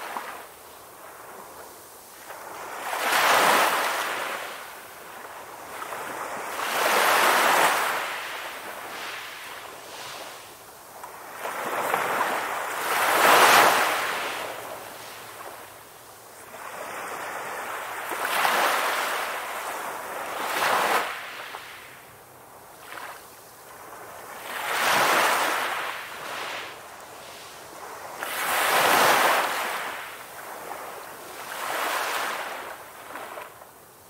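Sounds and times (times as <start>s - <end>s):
waves breaking and washing ashore: 0.0s - 34.0s.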